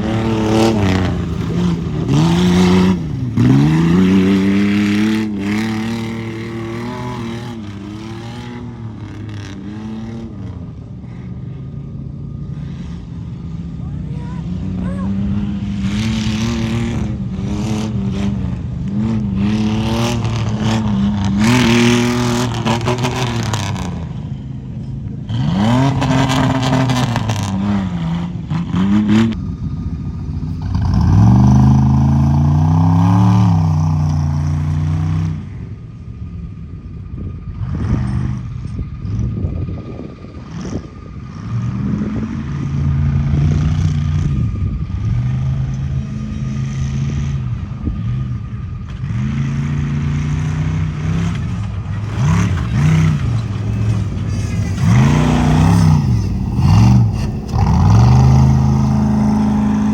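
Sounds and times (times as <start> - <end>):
truck engine revving hard: 0.0 - 11.4, 14.1 - 24.5, 25.2 - 29.6, 30.2 - 35.6, 37.5 - 59.9.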